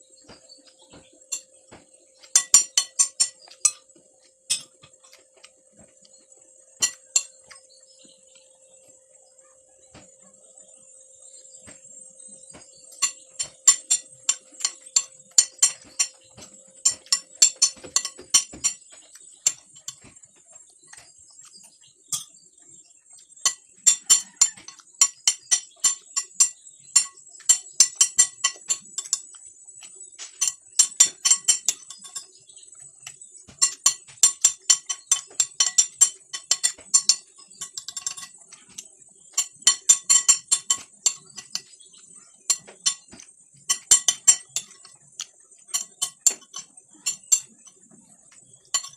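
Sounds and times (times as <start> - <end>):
cutlery clinking on a plate: 0.2 - 8.5, 11.6 - 22.4, 23.2 - 48.9.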